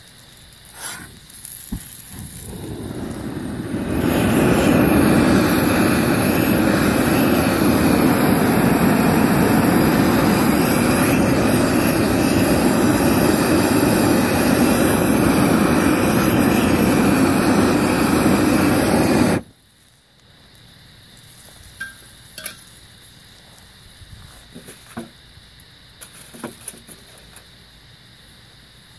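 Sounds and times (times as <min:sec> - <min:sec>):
propane torch flame rushing: 0:00.0 - 0:28.4.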